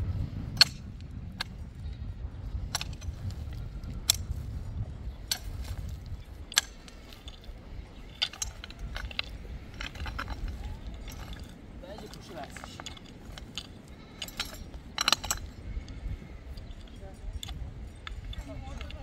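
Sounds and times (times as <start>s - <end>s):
low rumble: 0.0s - 19.0s
hoe striking stony soil: 2.6s - 4.5s, 5.2s - 19.0s.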